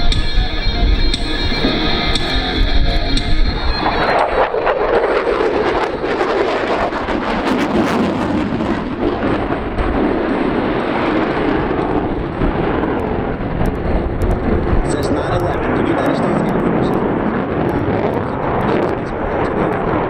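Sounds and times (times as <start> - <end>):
jet engine roar with crackle: 0.0 - 20.0.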